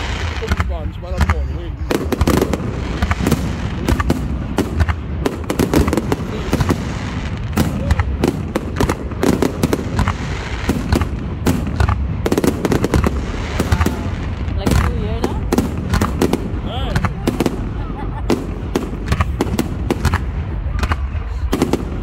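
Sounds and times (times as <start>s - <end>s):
fireworks barrage of bangs: 0.0s - 22.0s.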